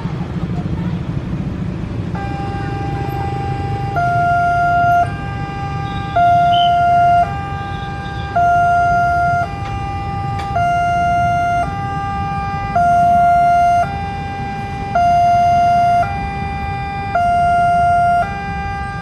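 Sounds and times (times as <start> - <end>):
low steady rumble: 0.0 - 19.0
two-tone level crossing siren: 2.1 - 19.0.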